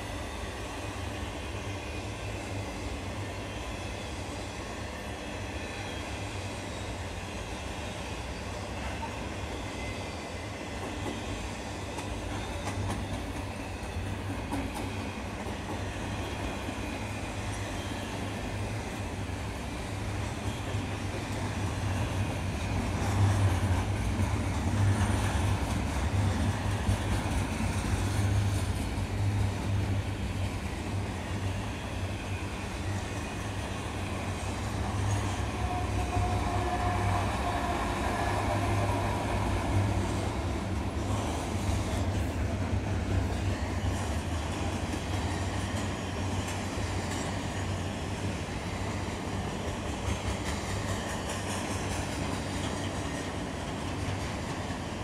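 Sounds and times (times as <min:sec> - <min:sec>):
diesel locomotive engine: 0:00.0 - 0:55.0
freight train wheels rumbling: 0:00.0 - 0:55.0.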